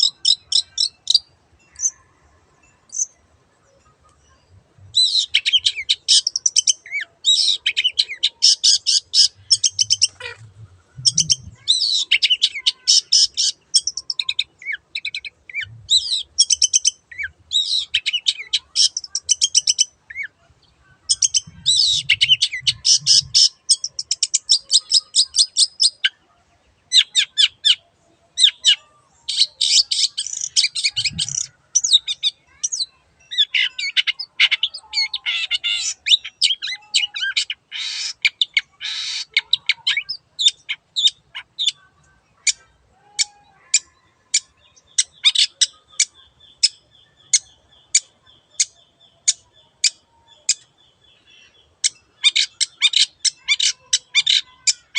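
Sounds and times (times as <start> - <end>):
bird harsh chattering song: 0.0 - 2.0, 2.9 - 3.2, 3.8 - 26.2, 26.9 - 54.9.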